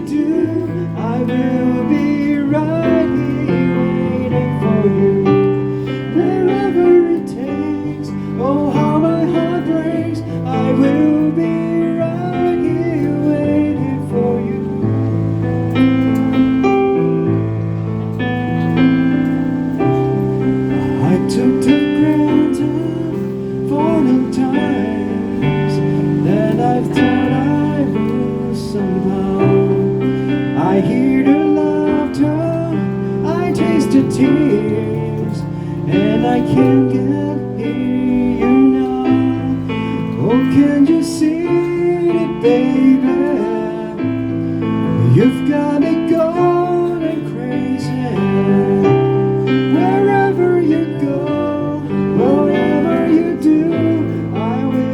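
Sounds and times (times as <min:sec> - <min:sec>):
person singing: 0:00.0 - 0:17.1, 0:19.8 - 0:54.9
instrumental accompaniment: 0:00.0 - 0:54.9.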